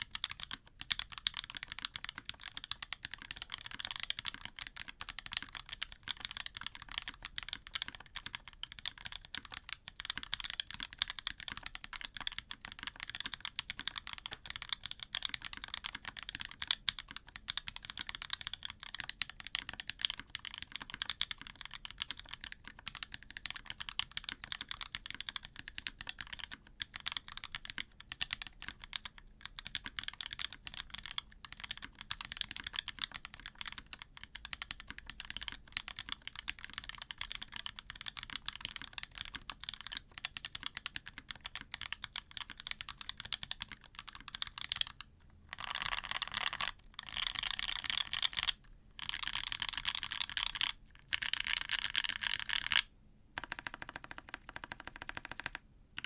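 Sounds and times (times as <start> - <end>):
mechanical keyboard typing: 0.0 - 56.0.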